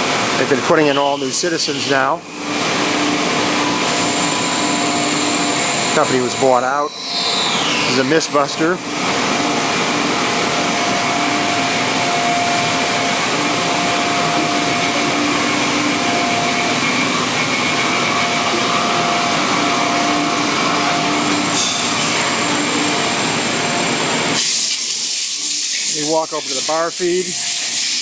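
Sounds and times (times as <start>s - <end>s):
faint hum tones: 0.0s - 24.6s
industrial blower fan whoosh: 0.0s - 28.0s.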